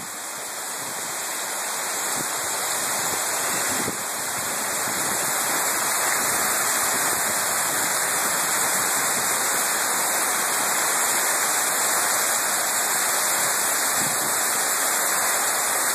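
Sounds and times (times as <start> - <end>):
heavy rain falling: 0.0 - 15.9.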